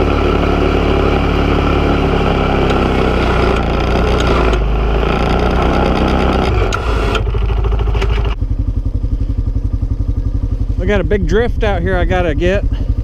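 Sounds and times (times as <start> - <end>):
atv engine revving and idling: 0.0 - 13.0.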